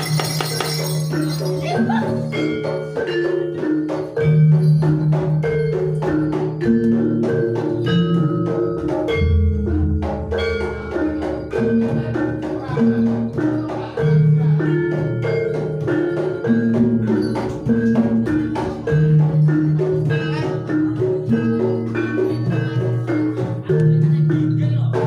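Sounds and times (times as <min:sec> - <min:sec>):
drum strokes: 0:00.0 - 0:25.0
metallophones playing: 0:00.0 - 0:25.0.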